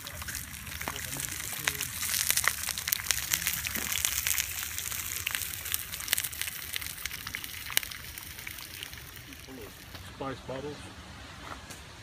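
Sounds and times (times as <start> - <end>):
bacon sizzling in a skillet: 0.0 - 10.0
fat popping and crackling: 0.0 - 10.1.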